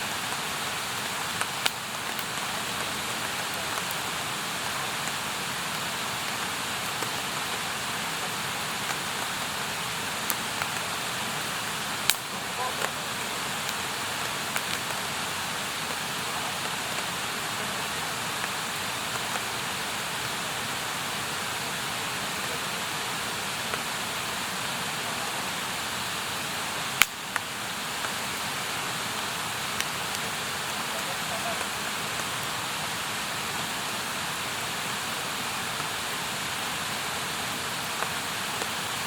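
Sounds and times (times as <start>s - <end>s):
campfire hissing: 0.0s - 39.0s
fire popping and crackling: 0.0s - 39.0s.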